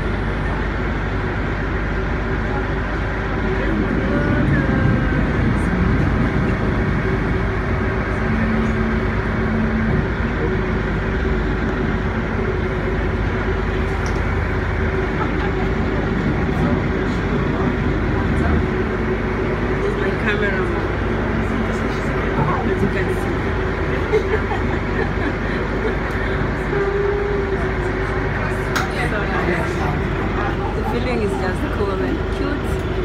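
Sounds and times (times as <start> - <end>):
boat engine hum: 0.0 - 33.0
faint voices: 0.0 - 33.0.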